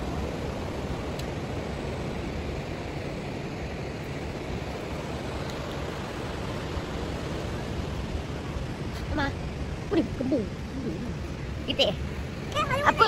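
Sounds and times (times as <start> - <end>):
surf rushing on a beach: 0.0 - 13.0.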